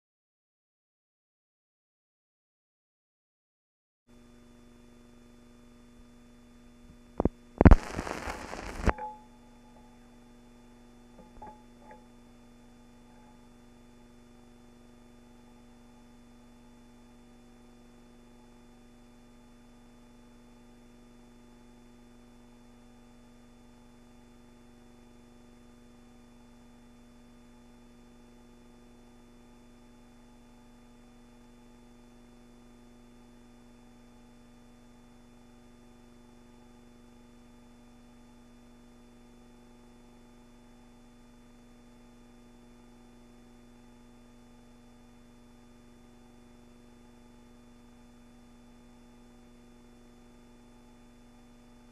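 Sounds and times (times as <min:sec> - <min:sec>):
faint electrical hum: 0:04.2 - 0:51.9.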